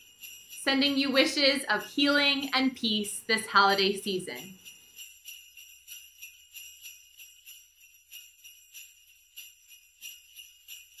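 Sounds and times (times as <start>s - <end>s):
sleigh bells jingling: 0.0s - 11.0s.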